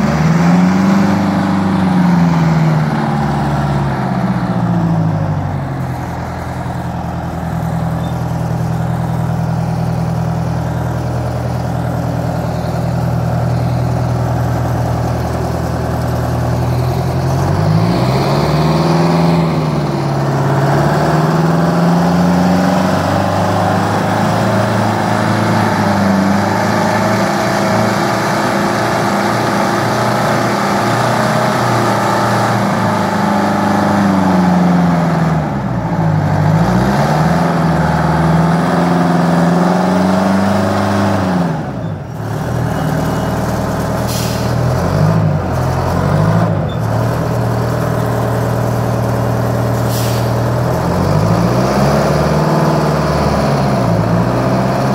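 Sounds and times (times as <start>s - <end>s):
wheel loader diesel engine revving: 0.0s - 54.9s.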